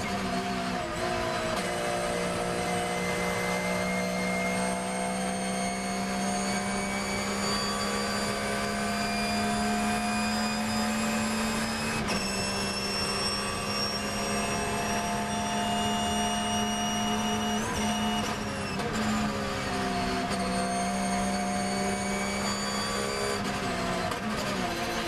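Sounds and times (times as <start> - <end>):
racing engine at full throttle: 0.0 - 25.0
wind and tyre noise: 0.0 - 25.0.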